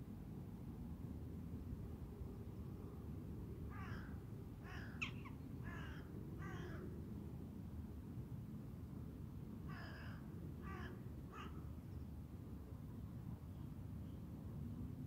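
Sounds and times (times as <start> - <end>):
low rumble of wind: 0.0 - 15.0.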